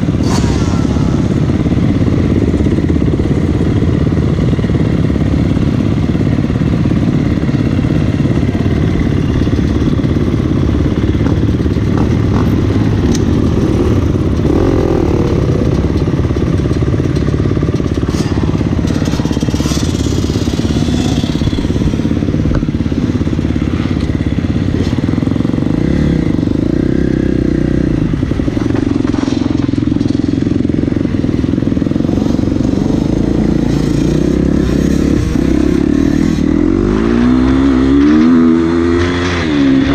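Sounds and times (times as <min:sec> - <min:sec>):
motorbike engine at low revs: 0:00.0 - 0:39.9.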